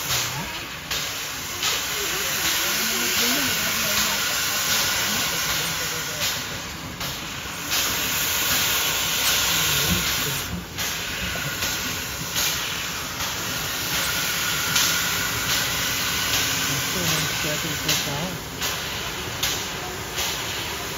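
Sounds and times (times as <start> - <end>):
steam locomotive hissing: 0.0 - 20.9.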